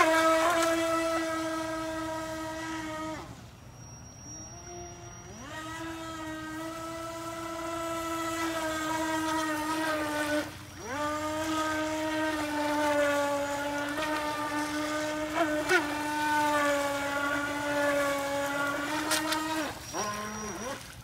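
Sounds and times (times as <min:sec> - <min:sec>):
electric boat motor whining: 0:00.0 - 0:21.0.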